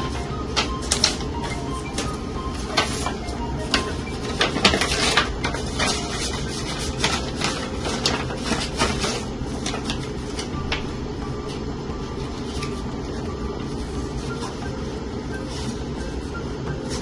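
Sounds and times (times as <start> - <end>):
paper rustling and crackling: 0.0 - 17.0
steady low hum: 0.0 - 17.0.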